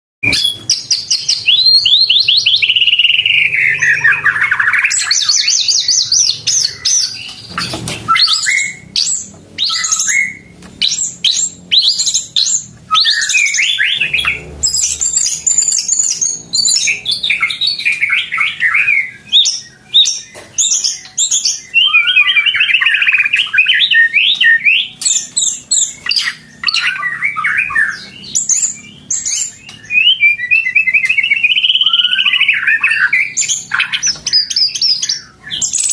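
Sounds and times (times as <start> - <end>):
songbird whistling and chipping: 0.2 - 35.9.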